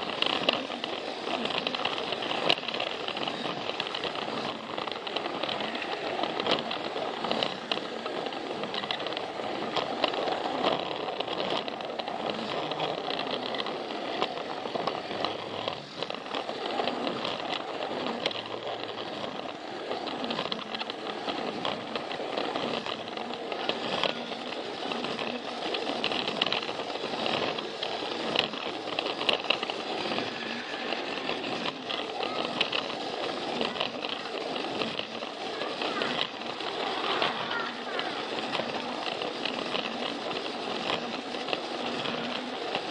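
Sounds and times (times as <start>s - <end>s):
toy train motor whirring: 0.0s - 42.9s.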